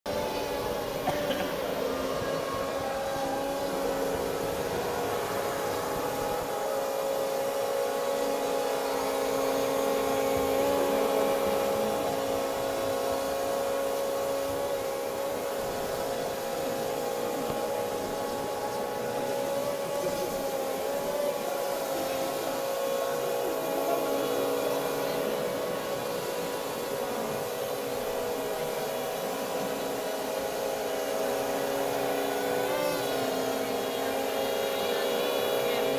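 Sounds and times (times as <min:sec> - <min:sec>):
drone propellers whirring: 0:00.1 - 0:35.9.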